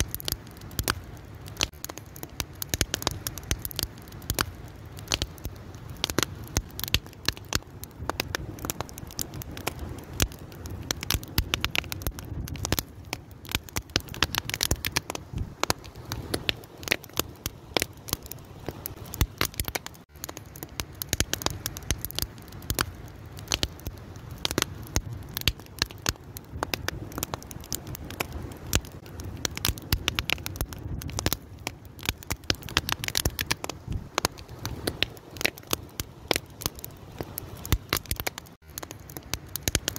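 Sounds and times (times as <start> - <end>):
fire crackling and popping: 0.0 - 39.9
low rumble of burning: 0.0 - 39.9.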